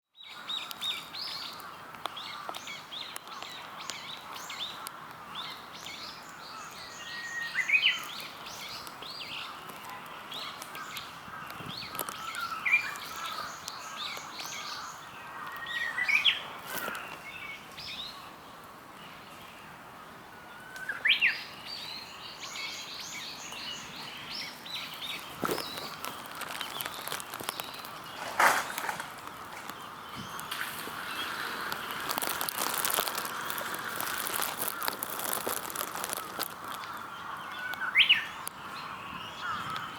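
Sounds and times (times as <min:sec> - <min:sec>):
bush warbler singing: 0:00.1 - 0:19.8, 0:20.4 - 0:39.9
small birds chirping: 0:00.1 - 0:39.9.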